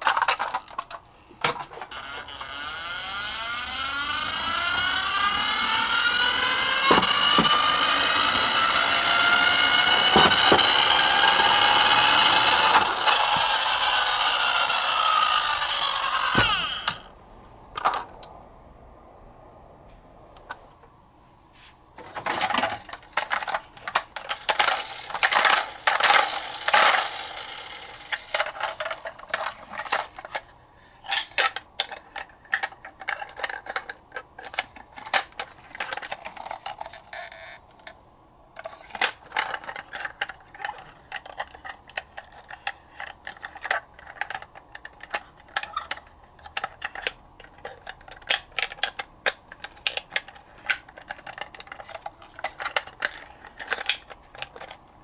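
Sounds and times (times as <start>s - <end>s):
toy truck clicks and taps: 0.0s - 17.1s, 22.4s - 30.5s, 31.1s - 38.0s, 38.6s - 54.8s.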